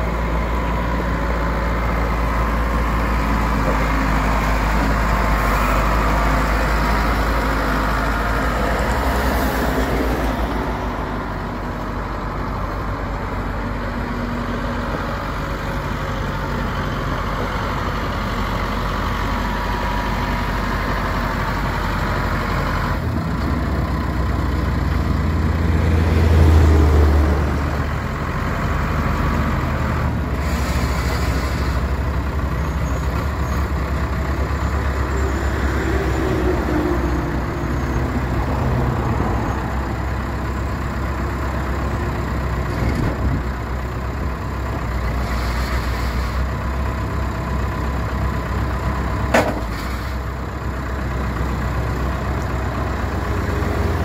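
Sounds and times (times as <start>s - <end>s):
diesel engine rumble: 0.0s - 54.0s.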